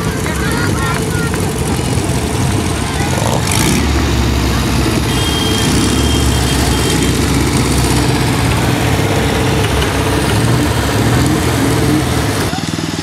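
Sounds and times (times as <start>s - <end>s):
race car engines idling: 0.0s - 13.0s.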